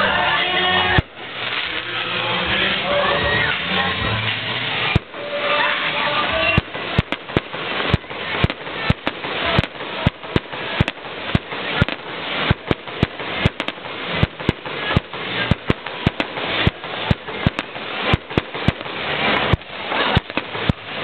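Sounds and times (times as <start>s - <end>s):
fireworks bangs: 0.0s - 21.0s
steady rushing noise: 0.0s - 21.0s.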